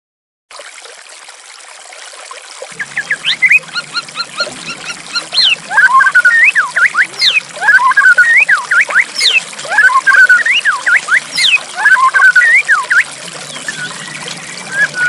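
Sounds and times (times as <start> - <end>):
trickling water: 0.5 - 15.0
bird singing whistled notes: 2.8 - 15.0.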